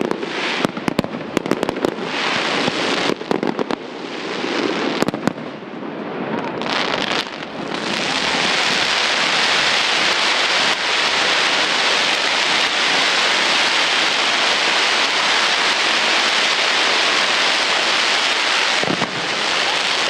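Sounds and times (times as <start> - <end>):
fireworks crackling hiss: 0.0 - 20.0.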